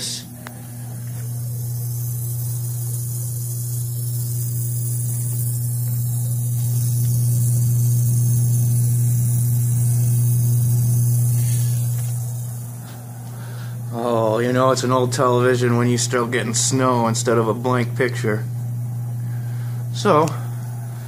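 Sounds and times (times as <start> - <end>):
television humming: 0.0 - 21.0.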